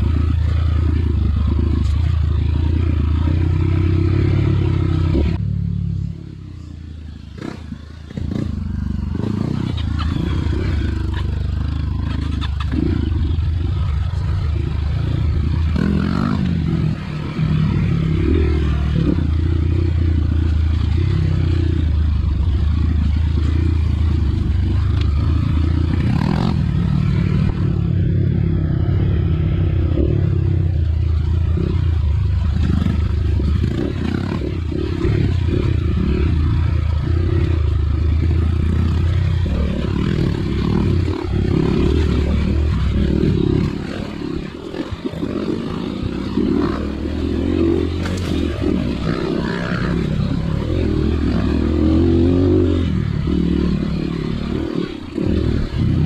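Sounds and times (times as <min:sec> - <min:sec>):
clatter and scraping on rough ground: 0:00.0 - 0:05.4, 0:07.2 - 0:28.0, 0:29.9 - 0:56.0
dirt bike engine: 0:00.0 - 0:56.0.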